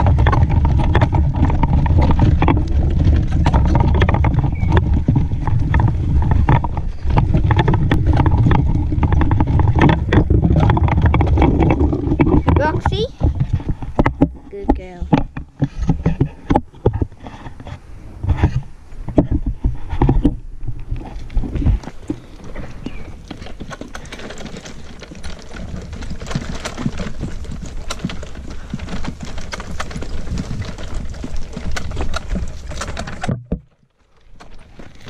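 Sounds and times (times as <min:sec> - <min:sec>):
steady rustle: 0:00.0 - 0:35.0.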